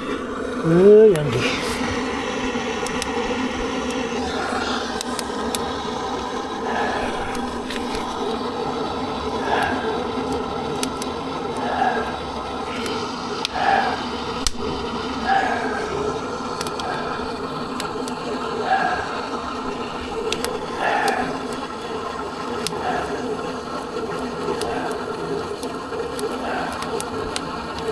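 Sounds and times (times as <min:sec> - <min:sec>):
firewood burning with crackles: 0:00.0 - 0:27.9
steady boiler hum: 0:00.0 - 0:27.9.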